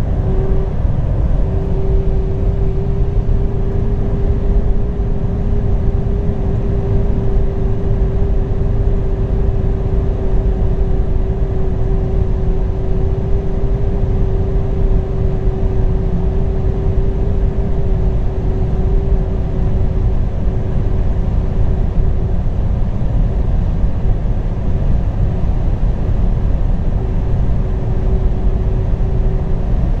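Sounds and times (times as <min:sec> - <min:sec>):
road and wind rumble: 0:00.0 - 0:30.0
steady whine: 0:00.0 - 0:30.0.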